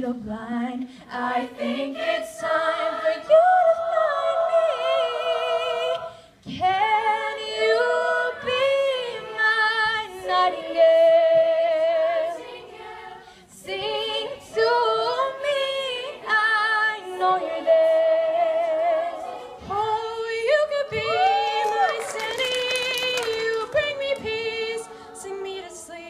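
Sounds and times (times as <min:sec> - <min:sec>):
vocal group singing harmonies: 0:00.0 - 0:26.0.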